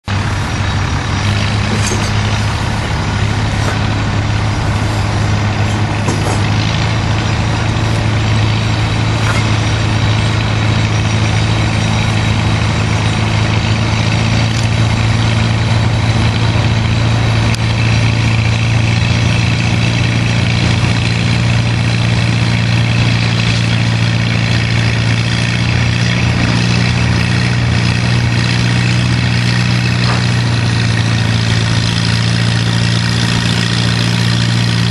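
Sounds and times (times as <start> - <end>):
tractor engine under load: 0.0 - 34.9.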